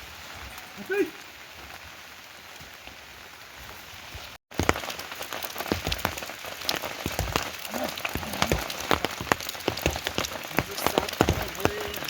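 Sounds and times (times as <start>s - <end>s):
rain hissing: 0.0s - 12.0s
raindrops on hard surface: 0.0s - 12.0s.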